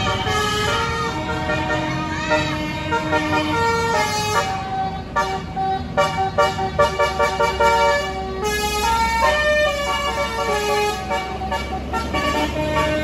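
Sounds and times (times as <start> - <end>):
musical bus horn melody: 0.0 - 13.0.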